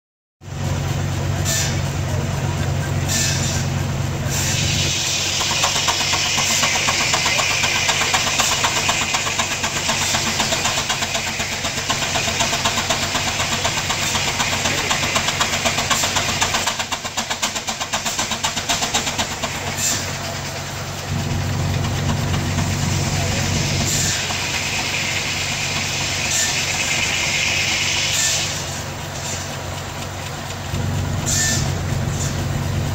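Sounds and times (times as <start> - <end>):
steam engine exhaust chuffing: 0.4 - 32.9
hissing steam: 0.5 - 32.9.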